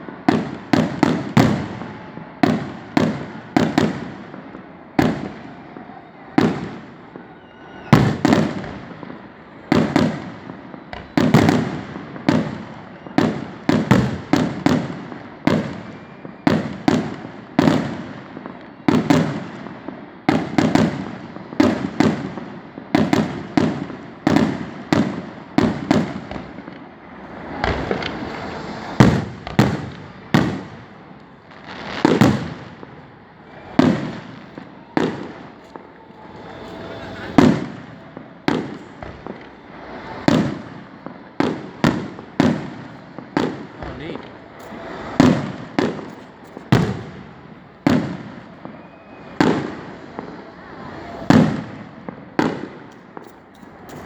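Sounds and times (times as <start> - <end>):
fireworks bursting with bangs: 0.0 - 54.0.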